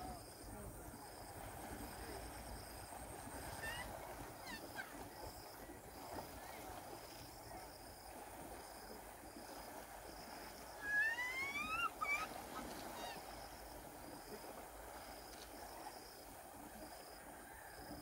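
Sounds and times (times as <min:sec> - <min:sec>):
river water rushing: 0:01.4 - 0:17.1.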